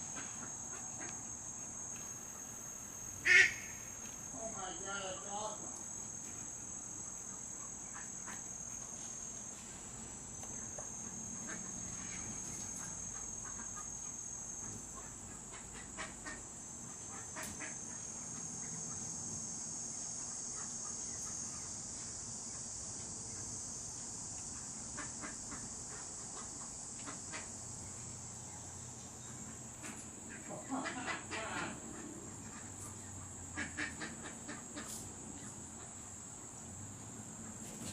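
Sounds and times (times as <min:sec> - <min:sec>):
short insect chirps: 0:00.0 - 0:30.4
shrill insect chorus: 0:00.0 - 0:37.9.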